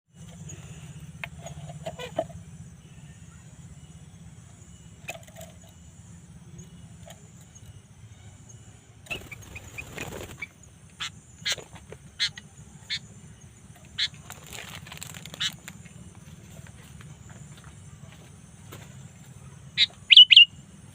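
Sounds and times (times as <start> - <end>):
steady low hum: 0.1 - 20.9
bird chirping calls: 0.2 - 16.8, 19.0 - 20.9.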